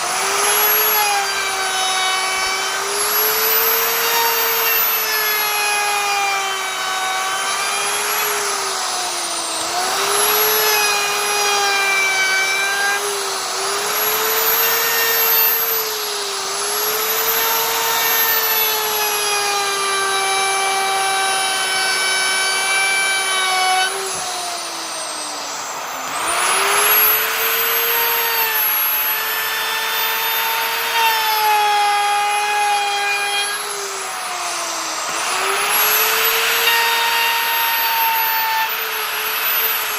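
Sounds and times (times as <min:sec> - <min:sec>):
electric router cutting wood: 0:00.0 - 0:39.9.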